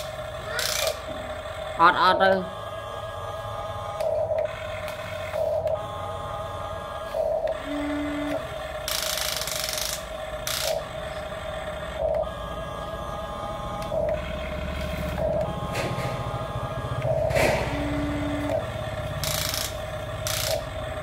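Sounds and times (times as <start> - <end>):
toy excavator motors whining: 0.0 - 21.0.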